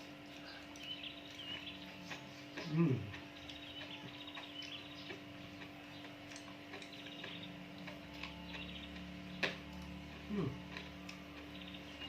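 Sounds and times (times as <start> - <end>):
steady low hum: 0.0 - 12.0
wet chewing clicks and pops: 0.2 - 12.0
high chirping trills: 0.3 - 12.0.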